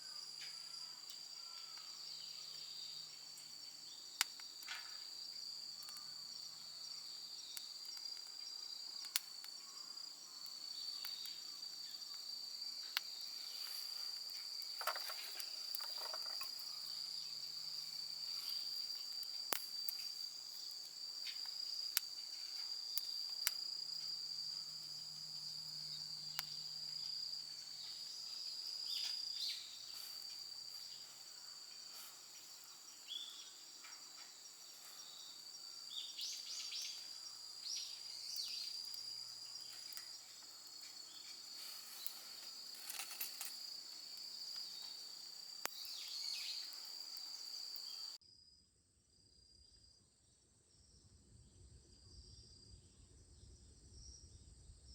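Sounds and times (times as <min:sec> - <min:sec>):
insects chorus: 0:00.0 - 0:48.5.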